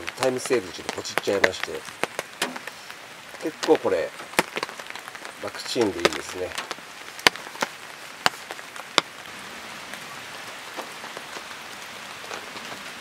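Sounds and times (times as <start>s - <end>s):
rain falling on a tarp: 0.0s - 13.0s.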